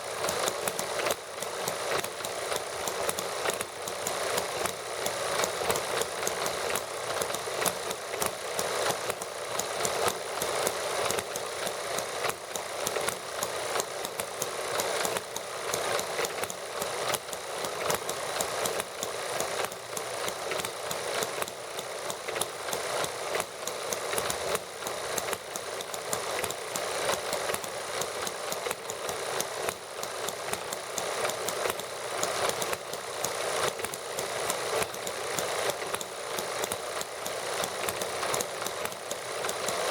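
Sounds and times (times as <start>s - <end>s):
model gasoline engines running: 0.0s - 39.9s.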